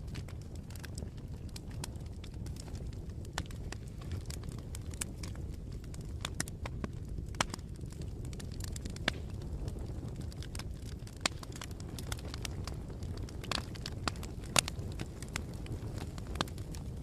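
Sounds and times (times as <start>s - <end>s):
bonfire rumble: 0.0s - 17.0s
fire pops and snaps: 0.0s - 17.0s.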